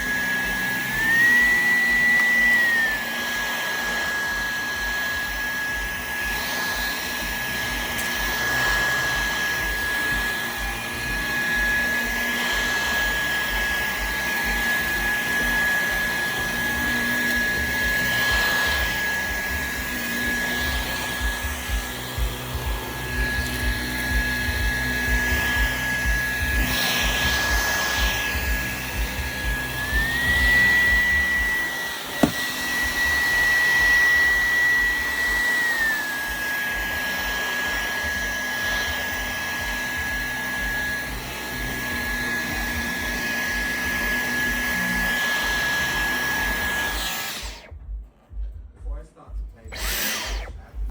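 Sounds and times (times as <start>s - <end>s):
vacuum cleaner motor whine: 0.0s - 48.4s, 49.6s - 50.9s.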